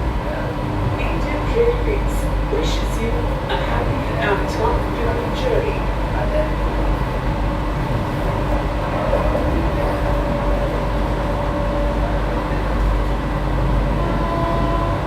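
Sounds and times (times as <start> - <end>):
train coach low rumble: 0.0 - 15.0.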